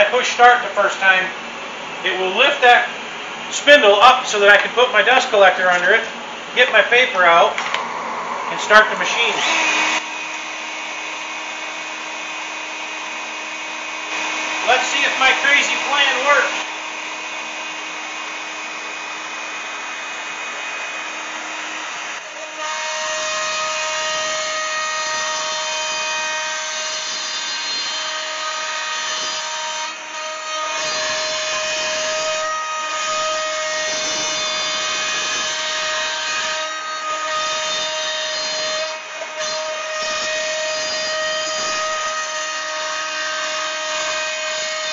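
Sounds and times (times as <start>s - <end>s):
router bit cutting wood: 7.2s - 44.9s
router motor whine: 7.5s - 44.9s.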